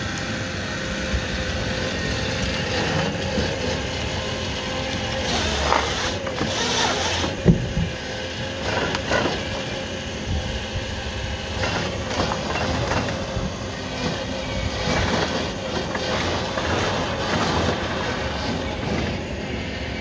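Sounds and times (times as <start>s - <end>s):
harvester engine running: 0.0s - 20.0s.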